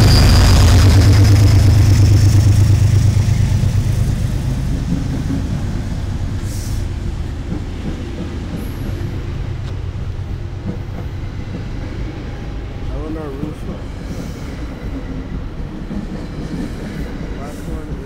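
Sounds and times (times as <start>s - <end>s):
diesel locomotive engine hum: 0.0s - 18.0s
passenger coaches rumbling past: 0.0s - 18.0s.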